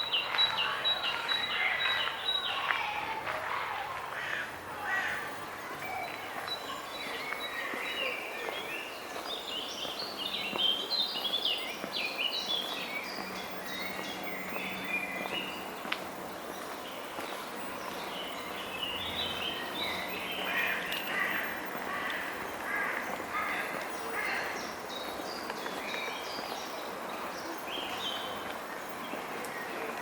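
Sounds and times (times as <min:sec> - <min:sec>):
distant city noise hiss: 0:00.0 - 0:30.0
songbirds chirping: 0:00.0 - 0:30.0.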